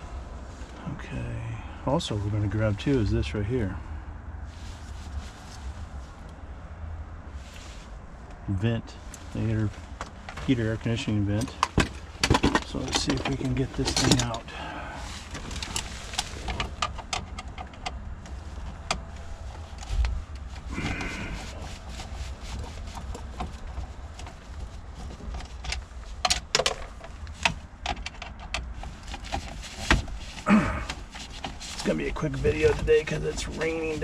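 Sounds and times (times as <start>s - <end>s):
steady low rumble: 0.0s - 26.2s, 30.0s - 34.0s.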